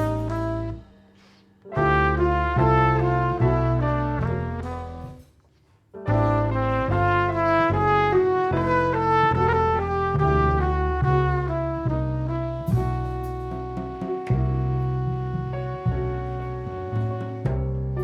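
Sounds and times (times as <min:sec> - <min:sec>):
trumpet melody: 0:00.0 - 0:01.1, 0:01.7 - 0:05.2, 0:06.1 - 0:18.0
drums: 0:00.0 - 0:08.0, 0:09.4 - 0:18.0
bass: 0:00.0 - 0:18.0
piano: 0:00.0 - 0:18.0.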